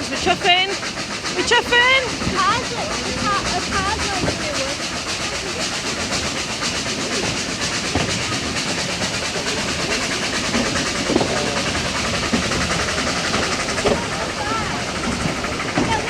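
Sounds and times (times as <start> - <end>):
steam locomotive chuffing: 0.0 - 16.0
track clacking: 0.0 - 16.0
wheels rumbling on rails: 0.0 - 16.0.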